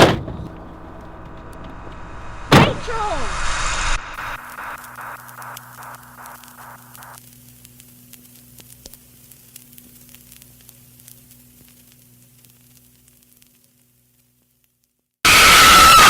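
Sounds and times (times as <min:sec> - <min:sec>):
sharp static pops: 0:00.0 - 0:13.6, 0:15.3 - 0:16.0
crackling static: 0:00.5 - 0:16.0.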